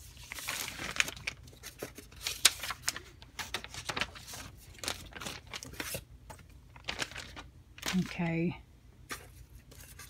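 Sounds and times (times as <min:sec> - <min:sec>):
paper and plastic rustling: 0:00.0 - 0:08.4, 0:09.1 - 0:10.0.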